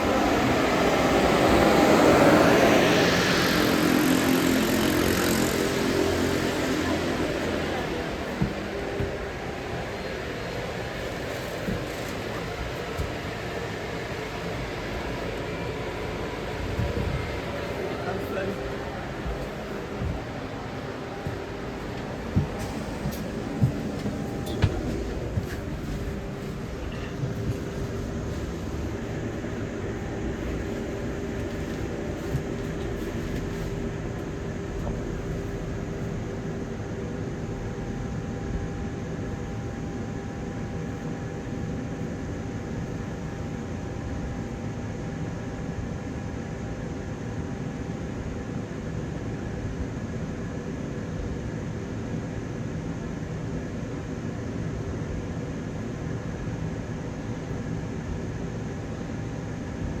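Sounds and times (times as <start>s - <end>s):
steady whine: 0.0s - 48.3s
bus engine and fan drone: 0.0s - 60.0s.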